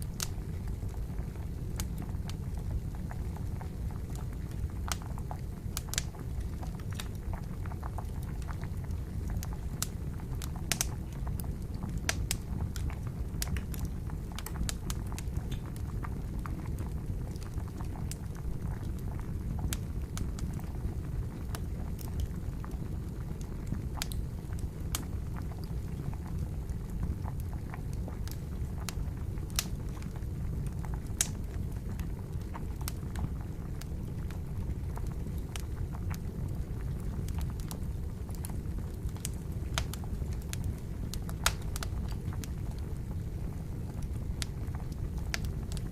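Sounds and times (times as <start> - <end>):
water boiling: 0.0 - 45.9
wood fire crackling and popping: 0.0 - 45.9.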